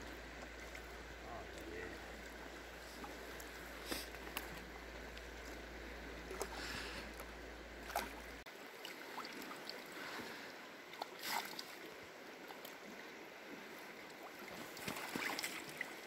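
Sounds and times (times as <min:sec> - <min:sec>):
river water running: 0:00.0 - 0:16.0
water splashing: 0:00.4 - 0:16.0.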